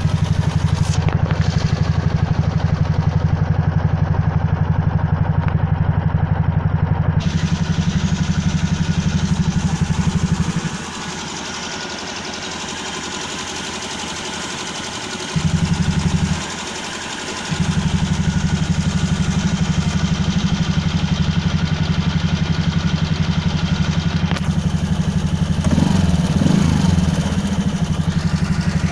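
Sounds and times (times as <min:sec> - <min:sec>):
scooter engine idling unevenly: 0:00.0 - 0:28.9.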